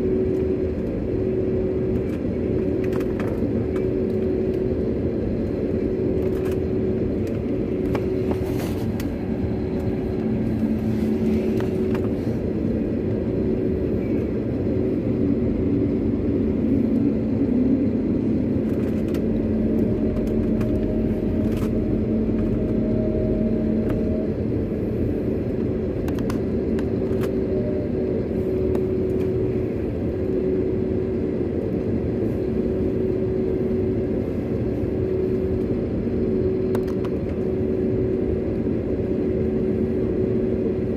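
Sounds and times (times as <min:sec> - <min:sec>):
jet engines humming: 0:00.0 - 0:40.9.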